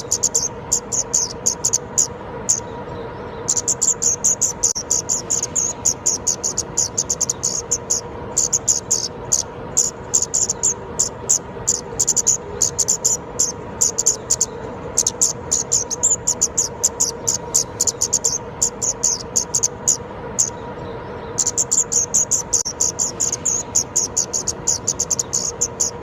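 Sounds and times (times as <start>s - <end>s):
songbird singing high chips: 0.0s - 26.0s.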